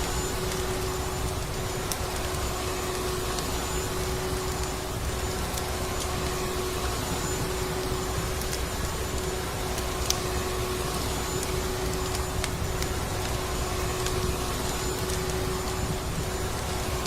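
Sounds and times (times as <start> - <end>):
sharp crackles: 0.0 - 17.0
vacuum cleaner running: 0.0 - 17.0.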